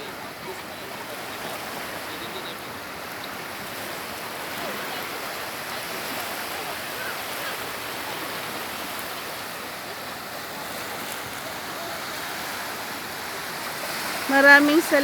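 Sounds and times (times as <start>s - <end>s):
sea surf washing on beach: 0.0s - 15.0s.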